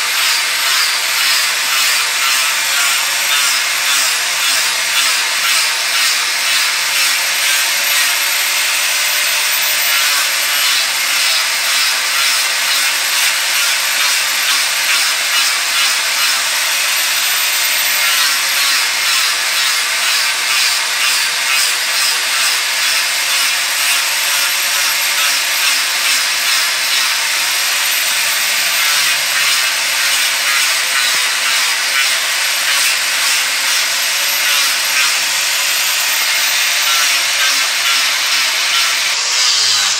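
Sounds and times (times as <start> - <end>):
grinder motor high whine: 0.0 - 21.0, 21.7 - 39.9
angle grinder grinding wood: 0.0 - 39.9.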